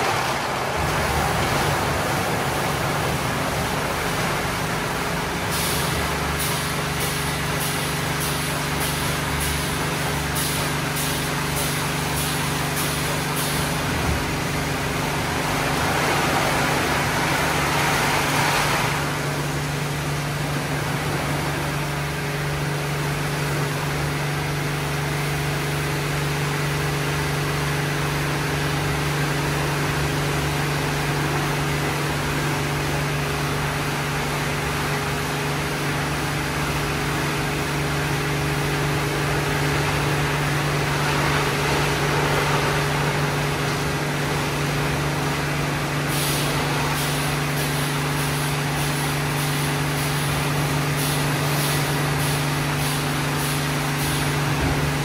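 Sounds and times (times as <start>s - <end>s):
car wash motor hum: 0.0s - 55.0s
car wash noise: 0.0s - 55.0s.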